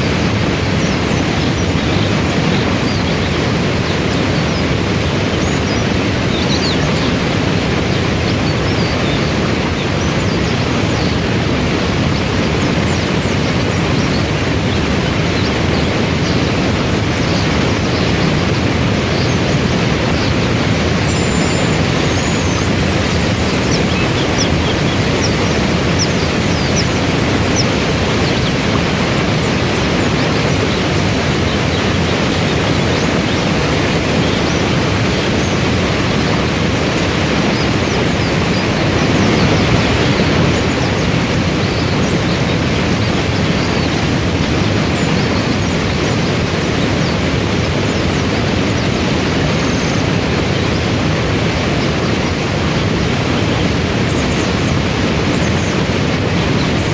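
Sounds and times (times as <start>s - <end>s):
waterfall and rapids rushing: 0.0s - 56.9s.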